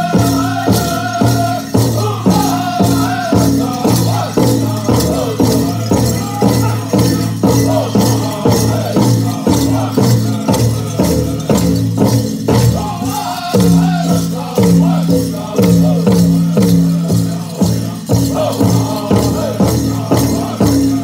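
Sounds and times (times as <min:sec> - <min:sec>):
big drum beating: 0:00.0 - 0:21.0
drum group singing: 0:00.0 - 0:21.0.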